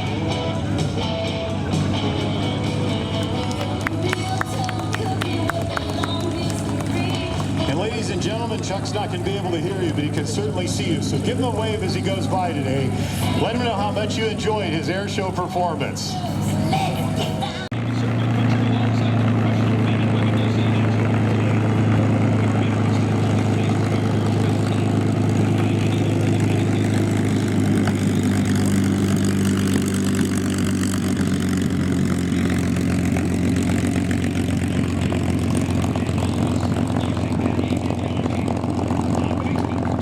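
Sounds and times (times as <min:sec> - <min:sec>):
propeller plane engine drone: 0:00.0 - 0:40.0.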